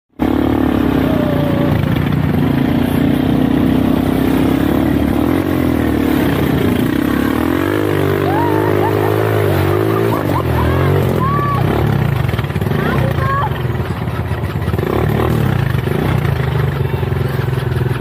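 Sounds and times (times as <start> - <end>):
quad bike engine running: 0.1 - 18.0.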